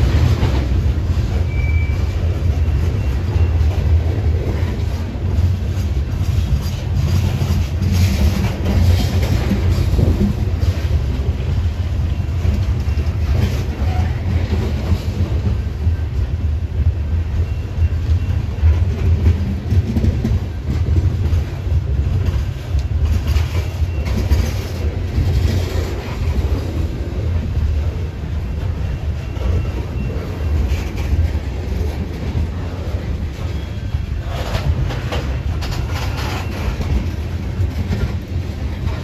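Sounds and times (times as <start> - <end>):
train wheels rumbling on rail: 0.0 - 39.0
wheels clacking over rail joints: 0.0 - 39.0.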